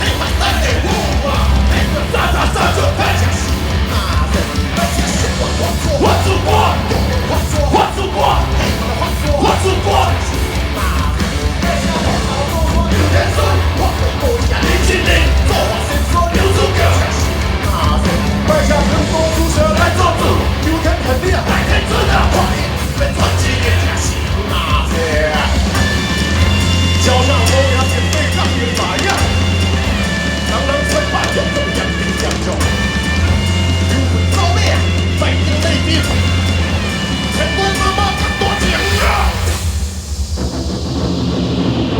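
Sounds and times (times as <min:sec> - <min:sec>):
live band music with singer: 0:00.0 - 0:40.0.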